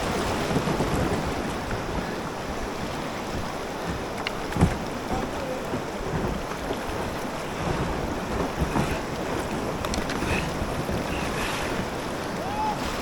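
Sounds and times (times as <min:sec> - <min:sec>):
fast river water rushing: 0:00.0 - 0:13.0
wind buffeting microphone: 0:00.0 - 0:13.0.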